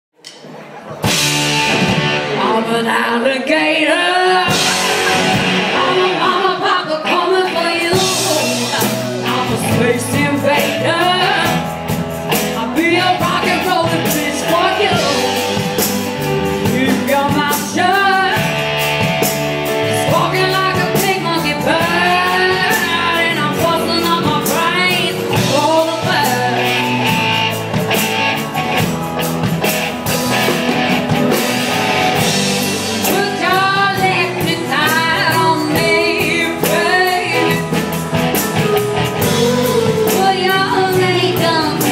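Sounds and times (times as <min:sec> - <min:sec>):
drums beating: 0:00.2 - 0:02.4, 0:04.4 - 0:06.6, 0:07.8 - 0:41.9
rock band playing live: 0:00.2 - 0:41.9
person singing: 0:02.2 - 0:27.4, 0:32.2 - 0:41.9.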